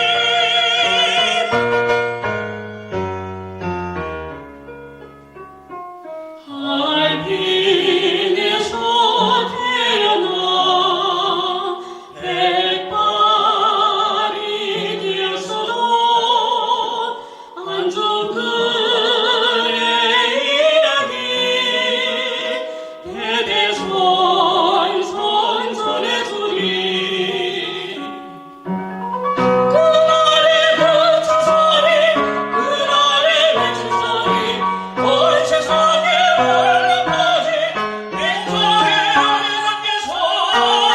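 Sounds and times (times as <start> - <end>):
operatic vocal with vibrato: 0.0 - 2.2, 6.4 - 28.6, 29.7 - 40.9
piano accompaniment: 0.0 - 40.9.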